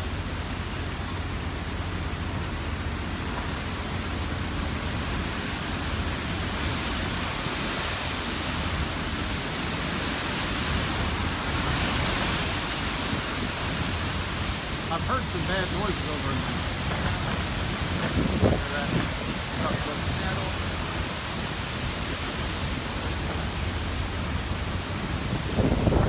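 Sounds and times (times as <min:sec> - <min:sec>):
driving rain: 0:00.0 - 0:26.0
strong wind through trees: 0:00.0 - 0:26.0.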